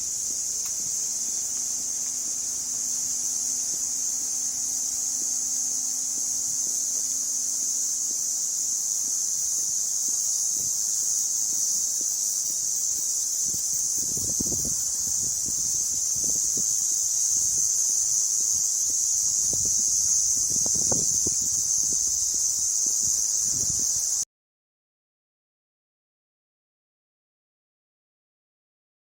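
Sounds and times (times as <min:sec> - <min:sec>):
high-pitched insect chorus: 0:00.0 - 0:24.2.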